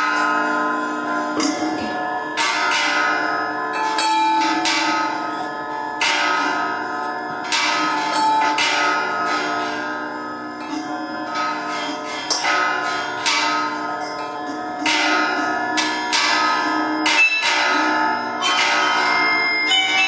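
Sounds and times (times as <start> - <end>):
bells ringing: 0.0 - 20.0.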